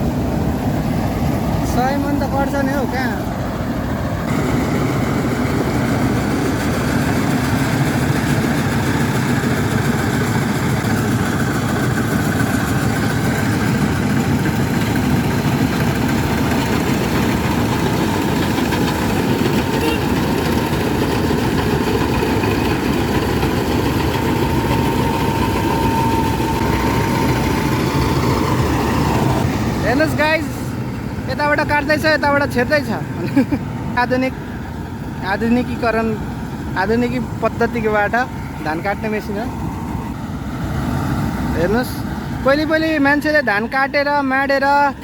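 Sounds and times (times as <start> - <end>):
combine harvester droning: 0.0 - 45.0.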